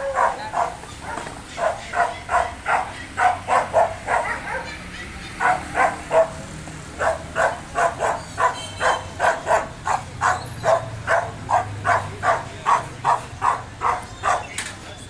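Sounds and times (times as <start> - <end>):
dog barking aggressively: 0.0 - 14.6.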